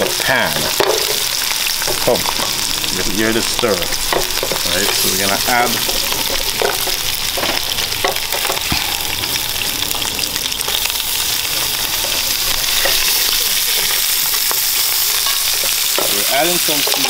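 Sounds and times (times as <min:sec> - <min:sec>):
seafood sizzling in frying pan: 0:00.0 - 0:17.0.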